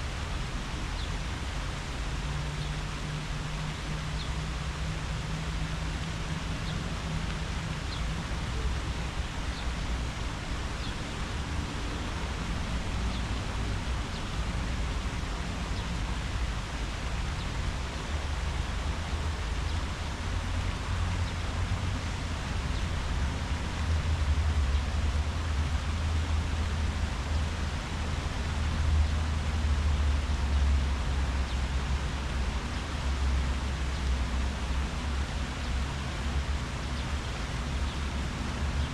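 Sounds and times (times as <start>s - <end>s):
leaves rustling in the wind: 0.0s - 38.9s.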